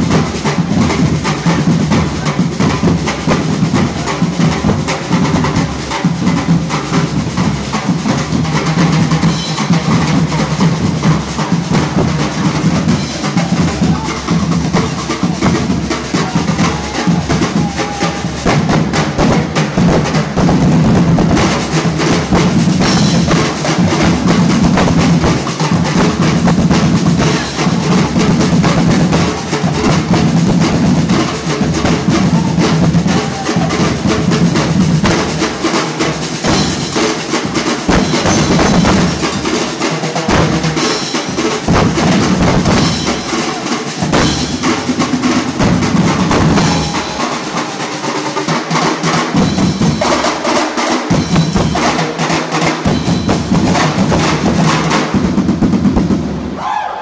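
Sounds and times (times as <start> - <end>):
cymbals crashing: 0.0 - 57.0
drum corps drumming: 0.0 - 57.0.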